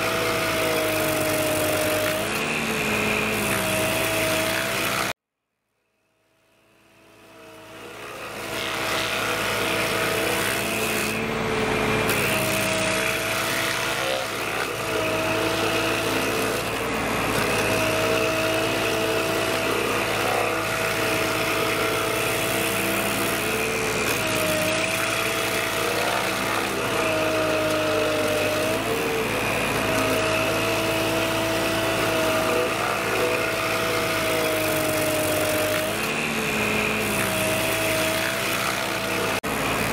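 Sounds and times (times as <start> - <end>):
stump grinder grinding wood: 0.0 - 5.2, 6.4 - 39.9.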